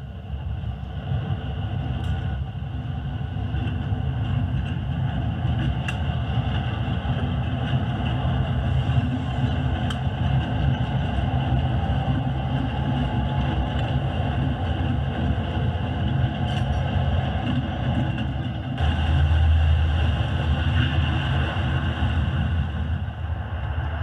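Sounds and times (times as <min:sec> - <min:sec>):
model train wheels on rails: 0:00.0 - 0:23.1
model locomotive low hum: 0:00.0 - 0:24.0.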